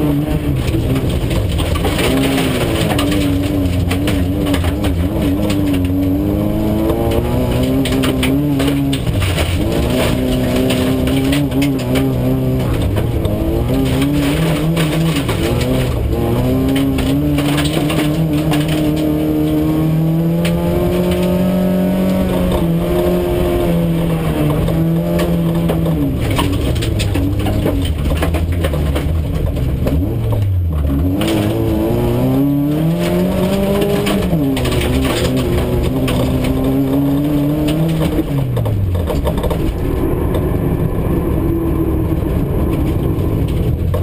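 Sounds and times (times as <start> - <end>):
knocks and rattles: 0.0 - 40.6, 41.5 - 44.0
race car engine revving: 0.0 - 44.0.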